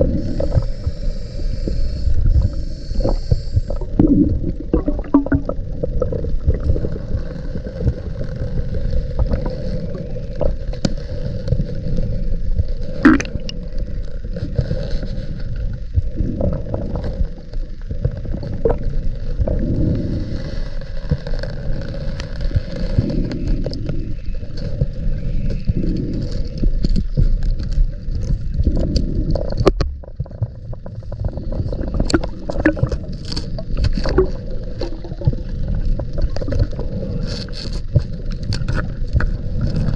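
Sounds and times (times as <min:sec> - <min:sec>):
gurgling exhaled bubbles: 0:00.0 - 0:39.9
muffled underwater rumble: 0:00.0 - 0:39.9.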